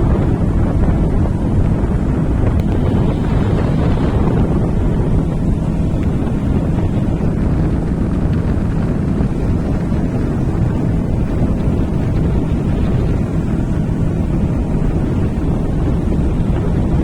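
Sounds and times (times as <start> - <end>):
steady low rumble: 0.0 - 17.0
wind buffeting microphone: 0.0 - 17.0.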